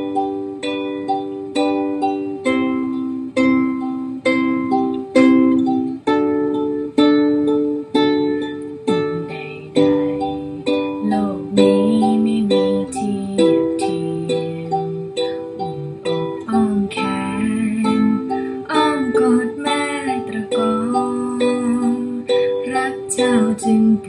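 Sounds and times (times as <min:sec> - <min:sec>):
person singing: 0:00.0 - 0:06.1, 0:06.8 - 0:24.0
ukulele strumming chords: 0:00.0 - 0:24.0.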